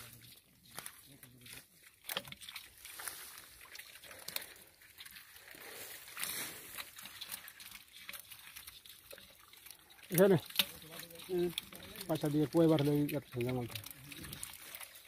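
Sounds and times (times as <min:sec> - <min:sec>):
hands squelching in wet mud: 0:00.0 - 0:15.0.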